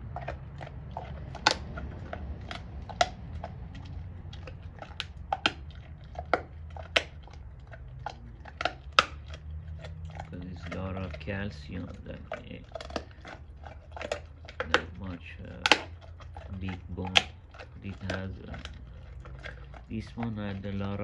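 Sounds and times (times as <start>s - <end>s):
dog gnawing bone: 0.0s - 21.0s.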